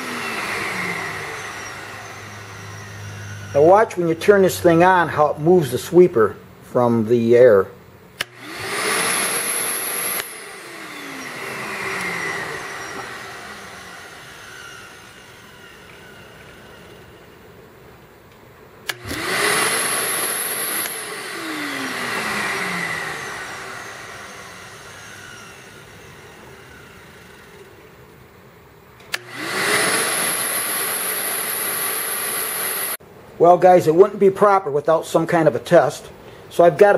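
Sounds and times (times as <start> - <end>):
shop vac motor whine: 0.0 - 6.0, 8.0 - 33.0.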